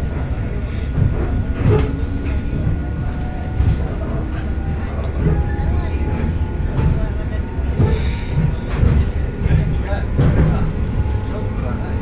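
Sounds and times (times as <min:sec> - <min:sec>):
low thumps: 0:00.0 - 0:11.2
train running gear rumble: 0:00.0 - 0:12.0.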